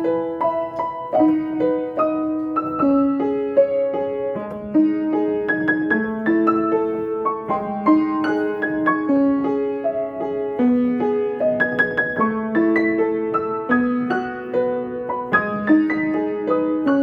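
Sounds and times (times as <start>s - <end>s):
piano playing gentle melody: 0.0s - 17.0s.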